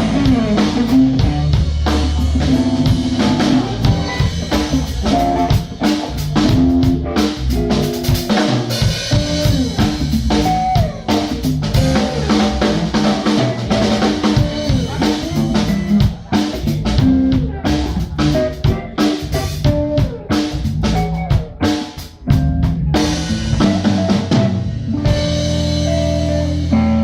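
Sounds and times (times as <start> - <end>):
band playing steady beat: 0.0 - 27.0.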